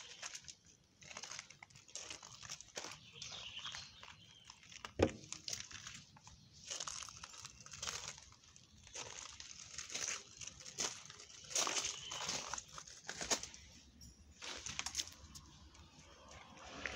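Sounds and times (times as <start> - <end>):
faint rustling and crunching: 0.0 - 16.9.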